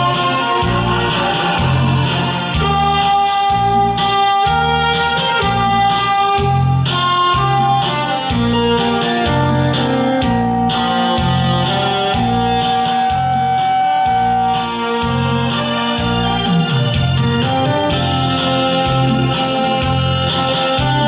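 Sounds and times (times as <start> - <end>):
backing track with bass beat: 0.0 - 21.0
saxophone playing a melody: 0.0 - 21.0.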